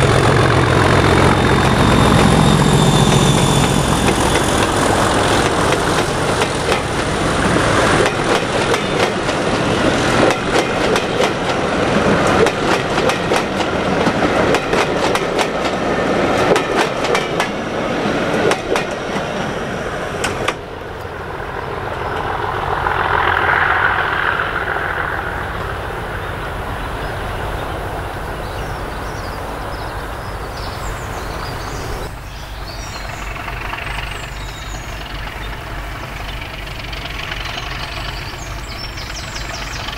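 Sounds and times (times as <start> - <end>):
train wheels clicking over rail joints: 0.0 - 27.6, 31.4 - 39.9
passenger train rolling past: 0.0 - 39.9.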